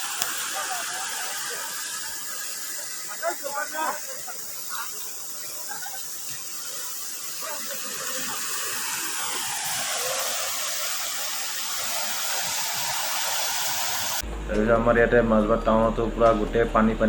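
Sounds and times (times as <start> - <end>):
floodwater rushing: 0.0 - 14.2.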